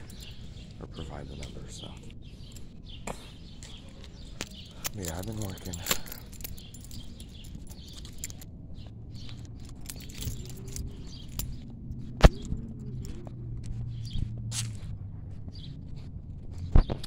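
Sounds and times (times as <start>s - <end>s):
footsteps on asphalt: 0.0s - 17.0s.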